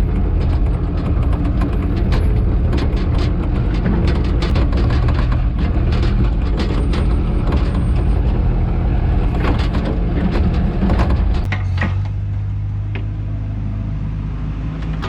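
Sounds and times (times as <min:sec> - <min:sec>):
clanks and rattles: 0:00.0 - 0:13.1
heavy machine engine running: 0:00.0 - 0:15.0.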